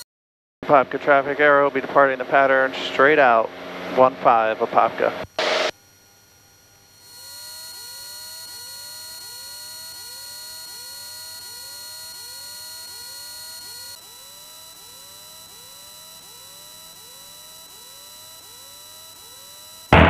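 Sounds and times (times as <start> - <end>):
steady high-pitched electrical tones: 0.6 - 20.0.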